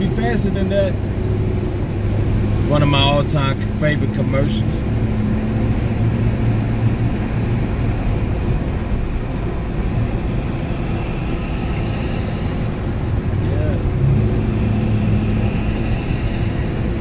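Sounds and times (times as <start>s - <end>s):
low hum: 0.0s - 17.0s
vehicle engine and road rumble: 0.0s - 17.0s.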